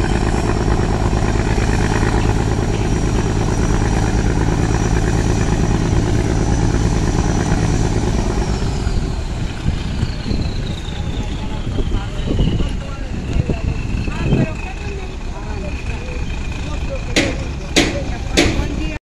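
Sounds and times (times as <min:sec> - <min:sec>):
speedboat engines running: 0:00.0 - 0:19.0.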